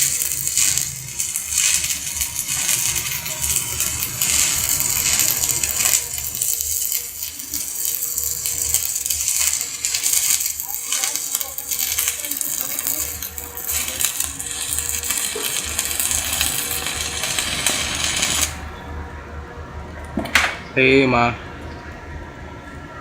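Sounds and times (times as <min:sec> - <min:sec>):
welding arc crackling: 0:00.0 - 0:18.8.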